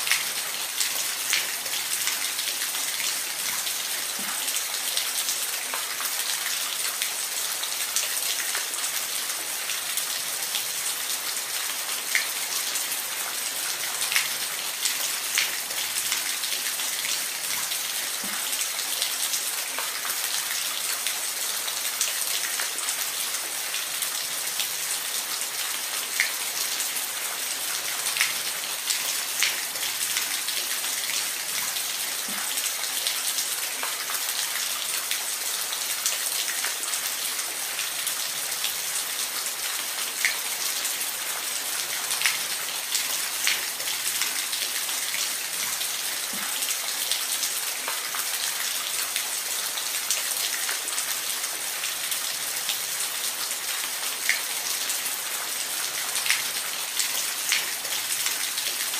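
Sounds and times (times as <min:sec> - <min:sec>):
water drips and splashes: 0:00.0 - 0:58.9.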